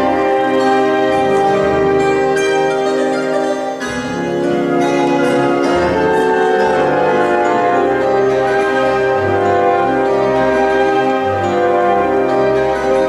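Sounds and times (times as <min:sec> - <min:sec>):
group and orchestra playing: 0:00.0 - 0:13.0.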